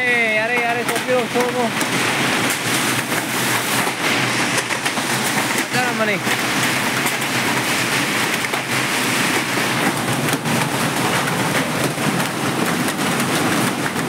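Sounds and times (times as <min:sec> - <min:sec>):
hailstones ticking: 0:00.0 - 0:14.0
heavy rain hiss: 0:00.0 - 0:14.0.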